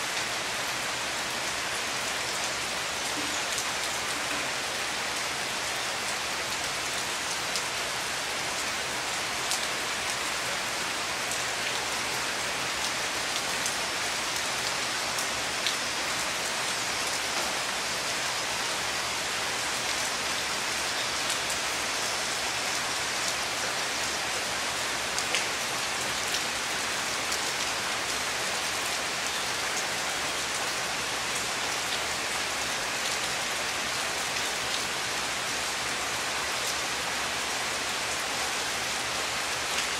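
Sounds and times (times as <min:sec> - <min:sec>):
heavy rain on water and foliage: 0:00.0 - 0:39.9.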